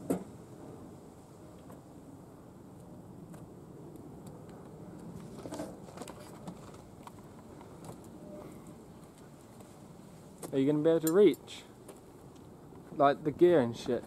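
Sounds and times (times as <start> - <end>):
quiet outdoor background noise: 0.0 - 14.0.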